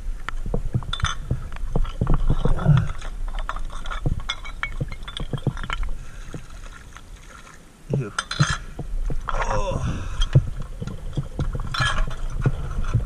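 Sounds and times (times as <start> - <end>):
underwater knocks and clicks: 0.0 - 7.0, 7.9 - 13.0
low rumble of water: 0.0 - 13.0.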